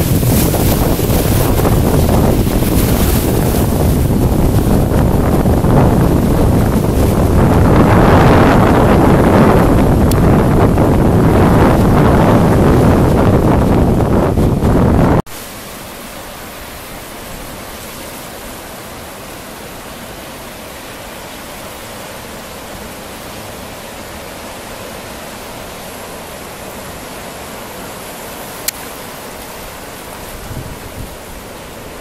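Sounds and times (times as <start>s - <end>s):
surf washing over rocks: 0.0s - 32.0s.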